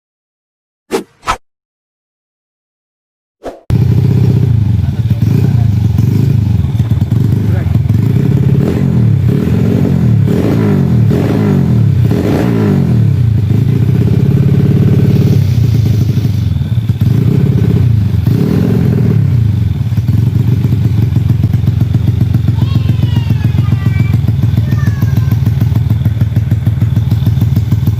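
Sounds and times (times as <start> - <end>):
motorcycle engine revving: 3.7 - 27.9.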